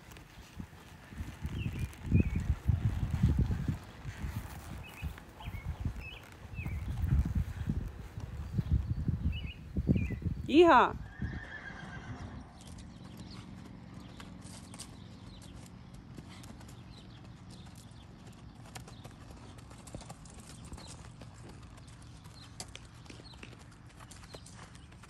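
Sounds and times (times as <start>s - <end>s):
hooves on gravel: 0.0s - 25.0s.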